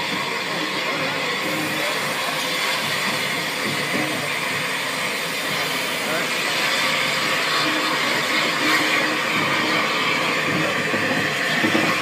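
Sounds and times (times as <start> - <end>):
steam locomotive rushing steam: 0.0 - 12.0.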